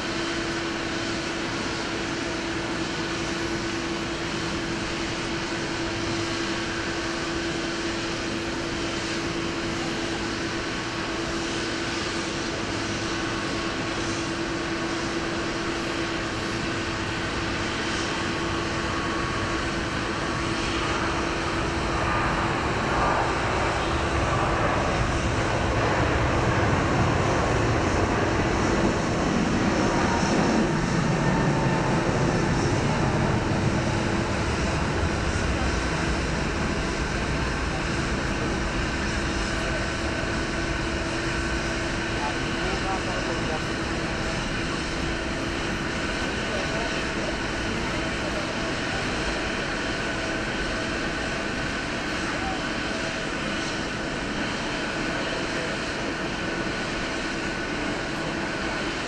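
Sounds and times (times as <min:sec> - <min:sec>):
airliner engines humming: 0:00.0 - 0:59.0.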